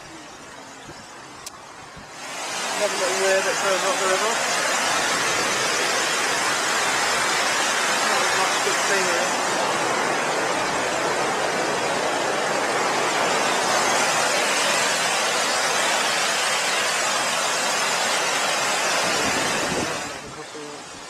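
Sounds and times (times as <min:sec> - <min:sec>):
water rushing over weir: 0:00.0 - 0:21.0.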